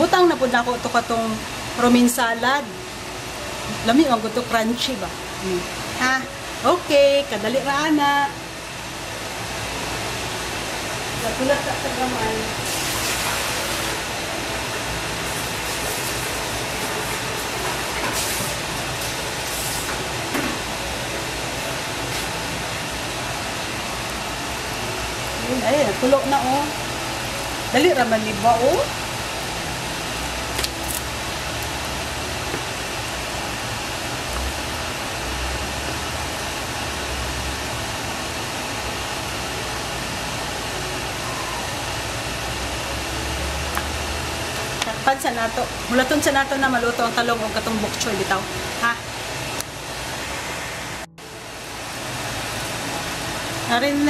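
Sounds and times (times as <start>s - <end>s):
broth boiling in a pan: 0.0s - 54.0s
soup bubbling and burner hiss: 0.0s - 54.0s.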